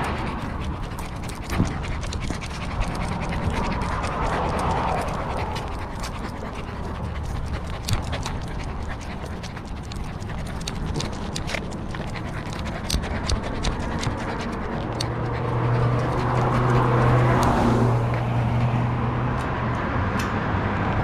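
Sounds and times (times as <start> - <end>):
small clicks and rustles: 0.0 - 17.6
dog panting: 0.0 - 19.6.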